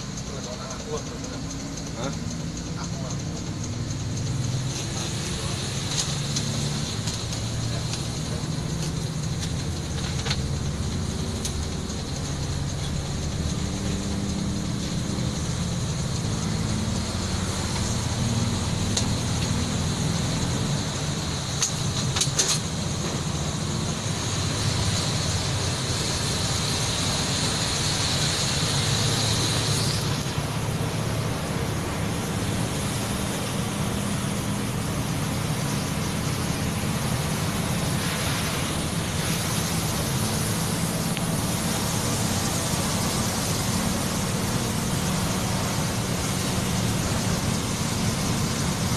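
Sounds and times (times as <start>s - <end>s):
diesel engine running: 0.0s - 48.9s
tyres hissing on wet road: 0.0s - 48.9s.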